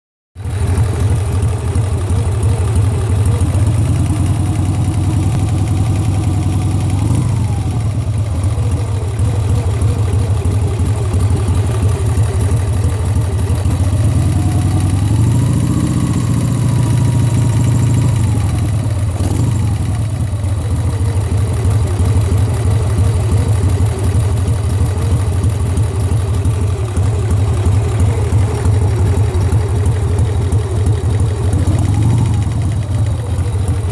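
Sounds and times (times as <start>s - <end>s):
engine knock: 0.4s - 33.9s
motorcycle engine idling and revving: 0.4s - 33.9s.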